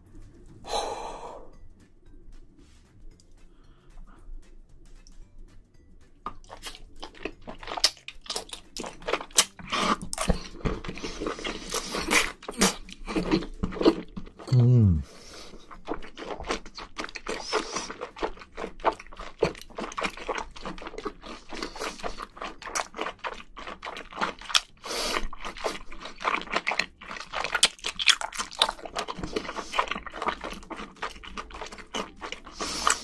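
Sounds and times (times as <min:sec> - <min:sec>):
person chewing with mouth clicks: 0:06.2 - 0:33.0.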